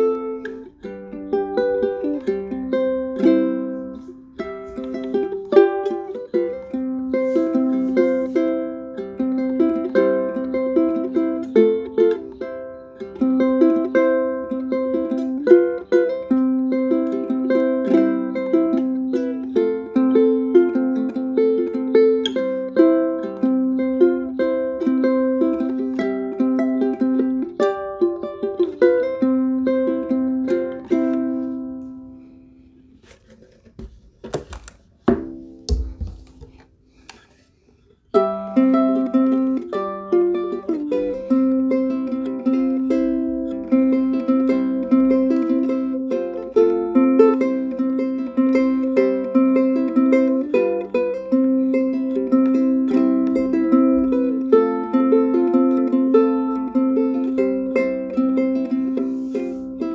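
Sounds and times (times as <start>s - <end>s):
ukulele plucked melody: 0.0s - 59.9s.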